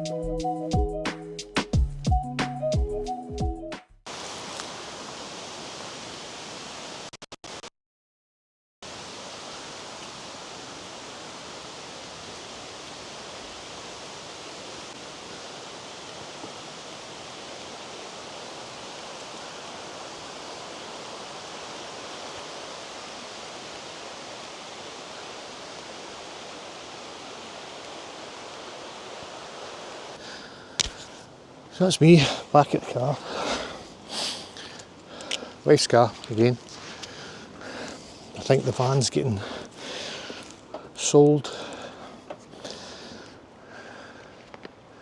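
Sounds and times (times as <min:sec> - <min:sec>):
river water rushing: 0:04.1 - 0:07.1, 0:08.8 - 0:45.0.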